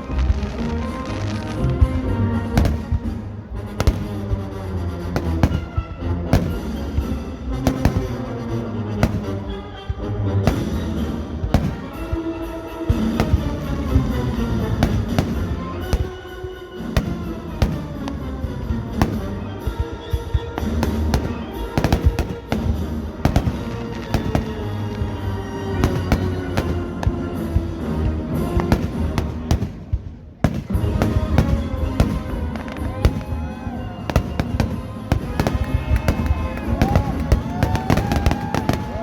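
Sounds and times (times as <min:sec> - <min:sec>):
fireworks bangs and crackles: 0:00.0 - 0:39.0
music: 0:00.0 - 0:39.0.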